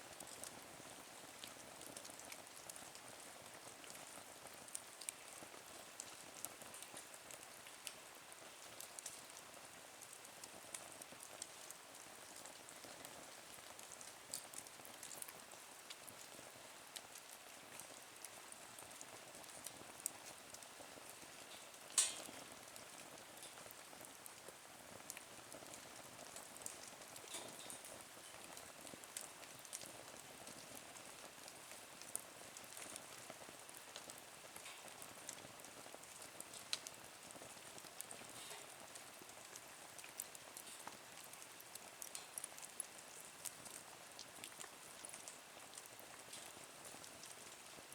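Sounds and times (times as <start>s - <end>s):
wood fire crackling and popping: 0.1s - 47.9s.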